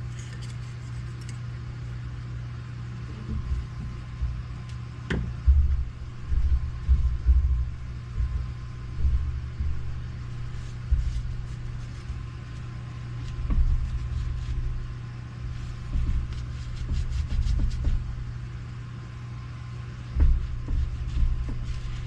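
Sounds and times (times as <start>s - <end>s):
low electrical hum: 0.0s - 22.0s
low rumbling: 2.8s - 22.0s.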